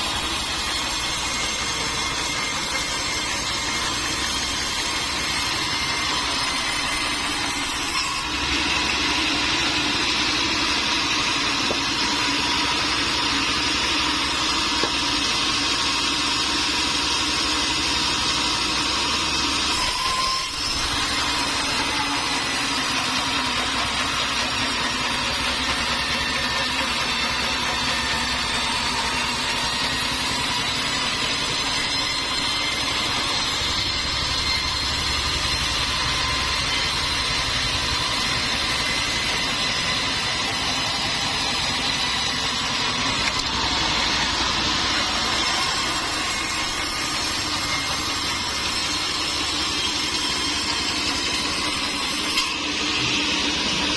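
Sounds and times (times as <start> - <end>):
sawmill machinery whining: 0.0 - 53.9.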